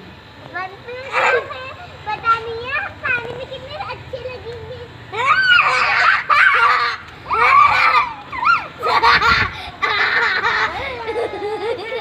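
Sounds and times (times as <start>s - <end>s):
children laughing and squealing: 0.9s - 12.0s.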